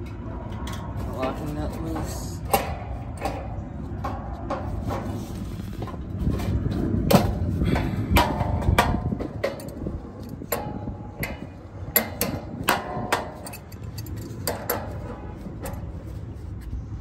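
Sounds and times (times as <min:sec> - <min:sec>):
metallic knocks and clanks: 0:00.0 - 0:16.1.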